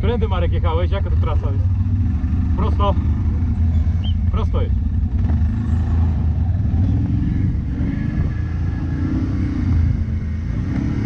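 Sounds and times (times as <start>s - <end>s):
quad bike engine rumbling: 0.0s - 11.0s.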